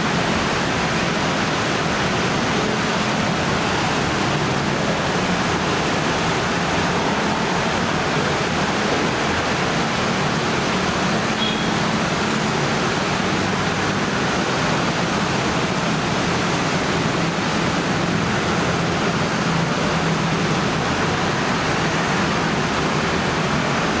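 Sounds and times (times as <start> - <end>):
scooter engines droning: 0.0 - 24.0
tyres hissing on wet road: 0.0 - 24.0.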